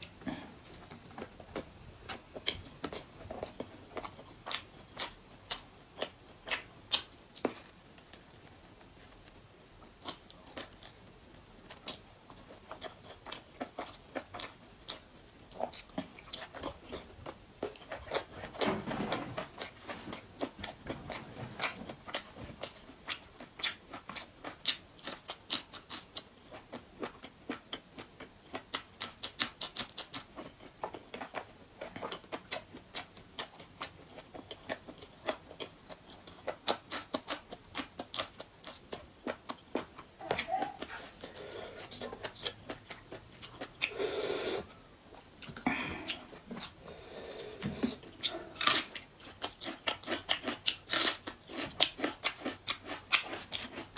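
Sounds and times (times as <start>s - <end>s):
person chewing wetly: 0.0s - 18.6s, 19.4s - 44.7s, 45.3s - 53.9s.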